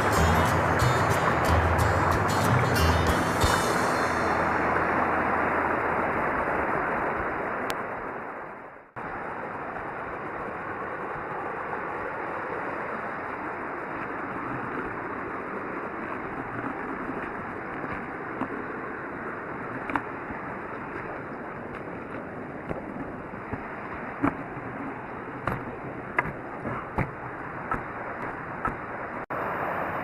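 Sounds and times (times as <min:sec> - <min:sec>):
creek water rushing over rapids: 0:00.0 - 0:30.0.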